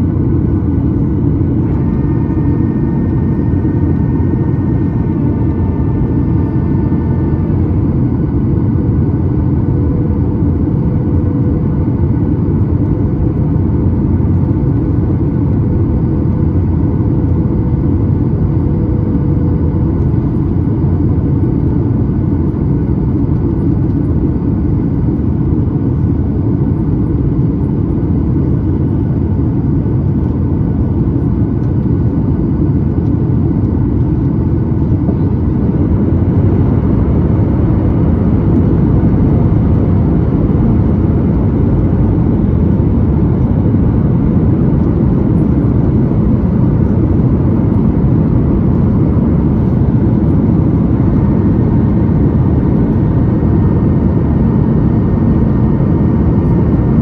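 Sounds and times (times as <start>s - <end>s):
airplane cabin rumble: 0.0s - 57.0s
faint hum: 0.0s - 57.0s.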